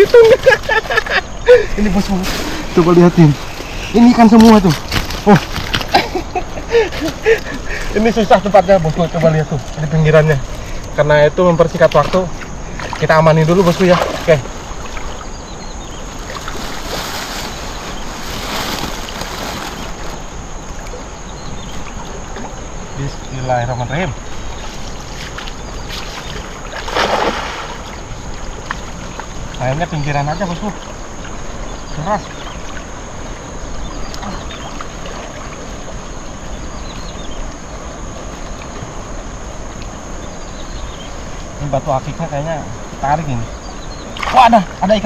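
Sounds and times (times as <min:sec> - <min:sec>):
floodwater rushing and lapping: 0:00.0 - 0:23.3, 0:24.2 - 0:41.6, 0:42.8 - 0:45.0.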